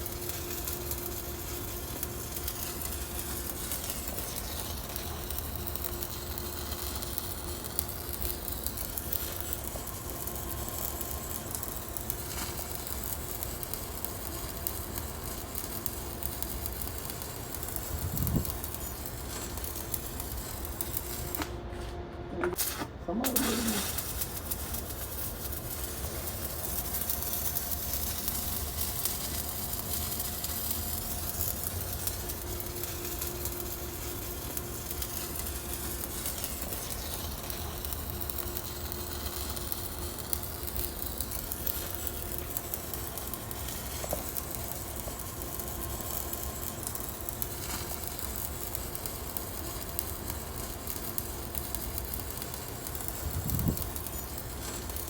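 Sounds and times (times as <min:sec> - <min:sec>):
welding arc crackling: 0:00.0 - 0:21.6, 0:22.5 - 0:55.0.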